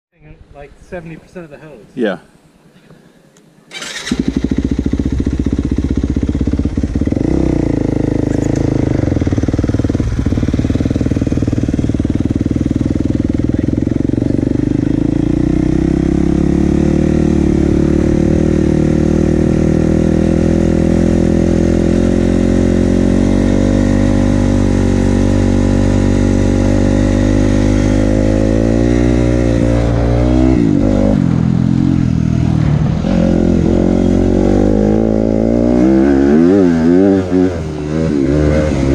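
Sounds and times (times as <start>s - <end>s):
dirt bike engine revving: 3.7s - 38.9s.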